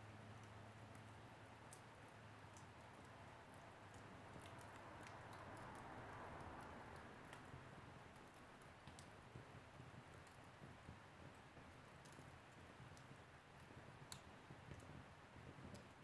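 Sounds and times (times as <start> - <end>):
wood fire crackling: 0.2 - 16.0.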